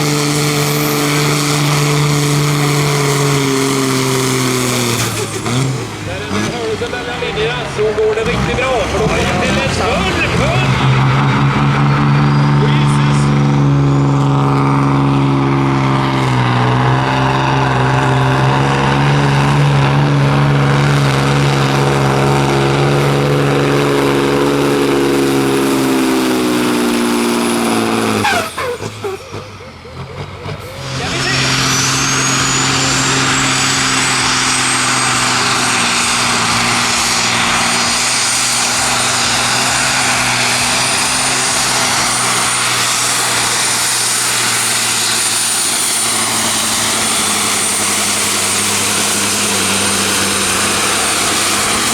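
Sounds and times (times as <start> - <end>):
high engine whine: 0.0 - 51.9
pulling tractor engine under load: 0.0 - 51.9.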